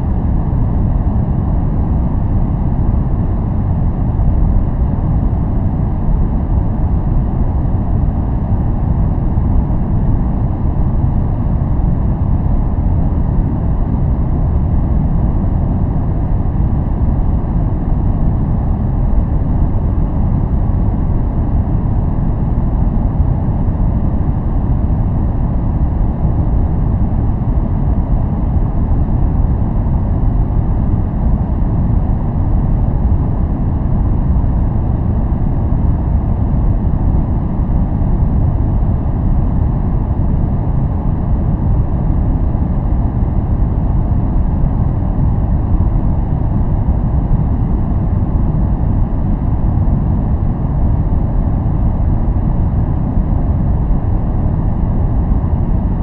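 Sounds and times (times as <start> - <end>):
deep white noise rush: 0.0 - 56.0.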